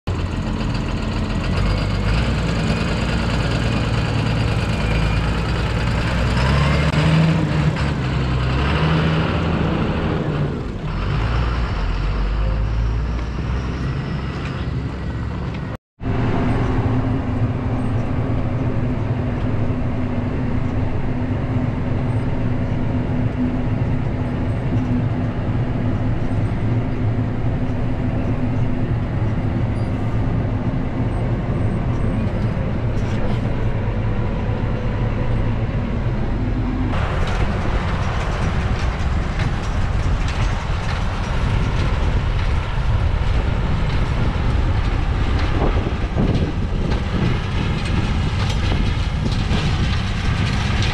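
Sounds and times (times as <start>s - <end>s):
tractor engine running under load: 0.1s - 13.6s, 14.5s - 50.9s.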